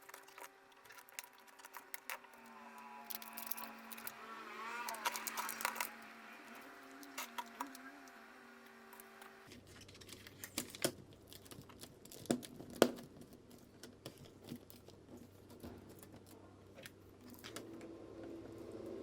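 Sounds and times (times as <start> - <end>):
plastic crinkling: 0.0 - 8.2, 8.9 - 17.6.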